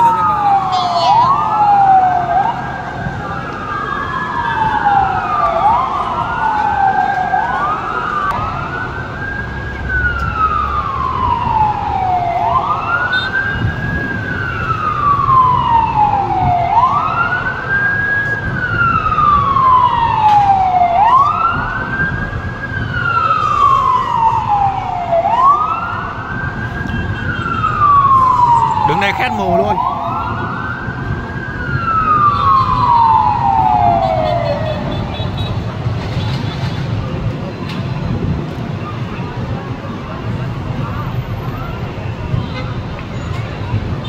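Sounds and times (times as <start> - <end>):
fire engine sirens wailing: 0.0 - 44.0
low rumble of street traffic: 0.0 - 44.0.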